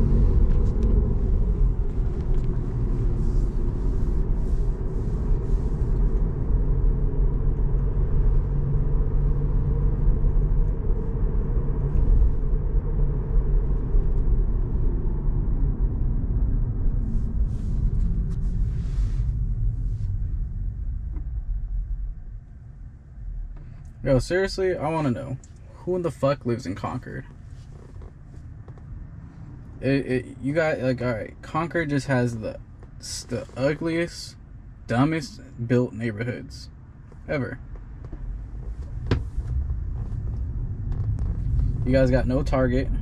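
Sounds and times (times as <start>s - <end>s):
road and tyre rumble inside car: 0.0s - 43.0s.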